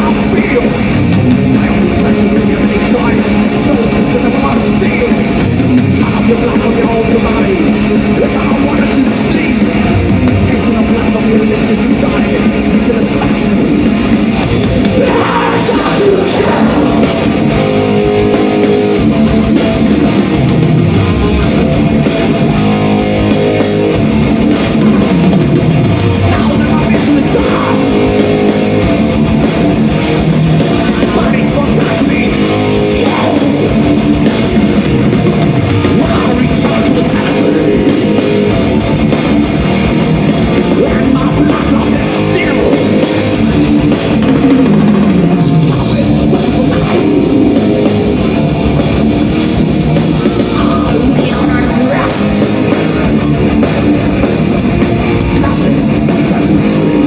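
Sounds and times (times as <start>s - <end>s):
distorted electric guitars: 0.0s - 57.0s
drums: 0.0s - 57.0s.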